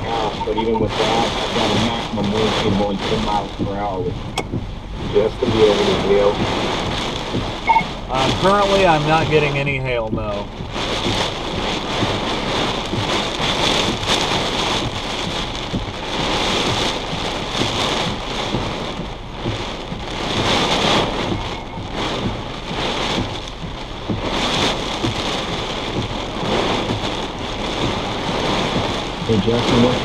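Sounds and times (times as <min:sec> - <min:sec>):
heavy rain on car roof: 0:00.0 - 0:30.0.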